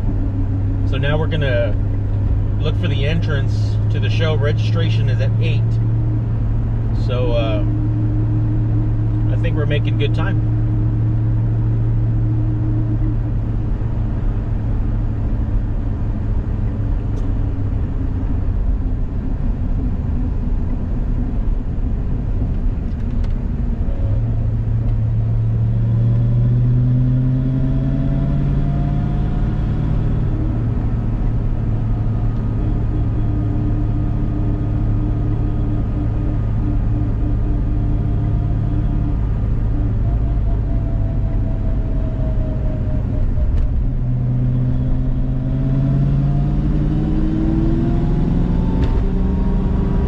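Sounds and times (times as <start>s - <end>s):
car engine hum: 0.0s - 50.0s
road noise: 0.0s - 50.0s.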